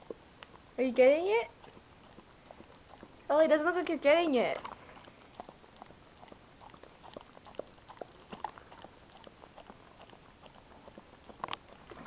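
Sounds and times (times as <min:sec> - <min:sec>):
dog licking: 0:00.0 - 0:12.0.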